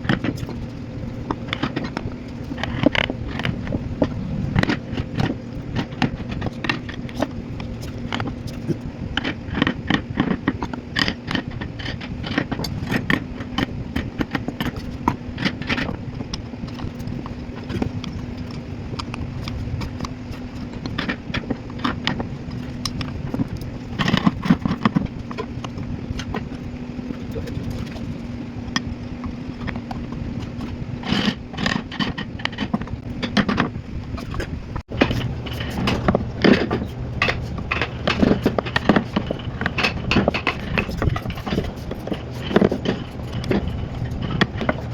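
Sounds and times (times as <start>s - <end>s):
carving tools tapping and scraping wood: 0.0s - 44.9s
steady low hum: 0.0s - 44.9s.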